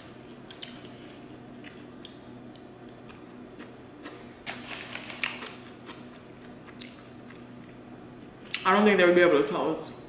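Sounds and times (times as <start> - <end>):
chewing fries: 0.4 - 8.6.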